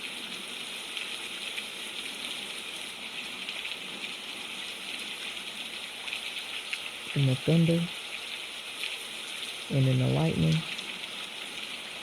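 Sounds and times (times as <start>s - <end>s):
heavy rainfall: 0.0s - 12.0s.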